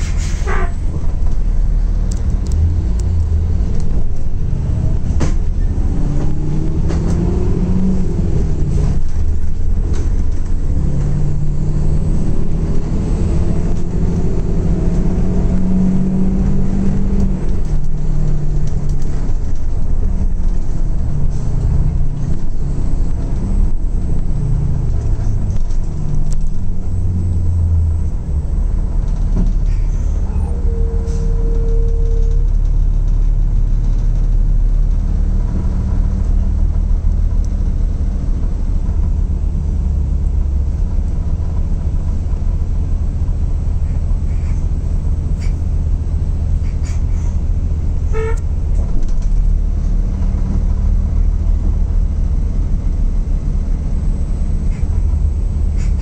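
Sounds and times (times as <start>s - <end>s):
bus engine rumble: 0.0s - 56.0s.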